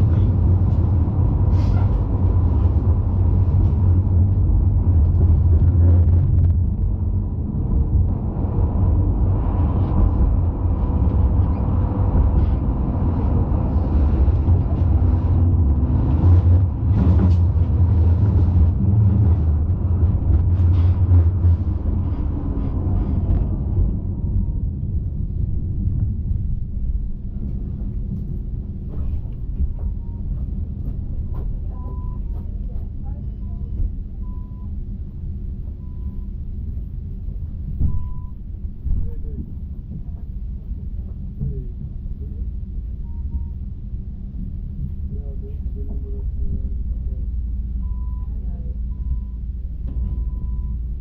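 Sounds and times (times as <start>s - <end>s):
tram rumbling on rails: 0.0s - 51.0s.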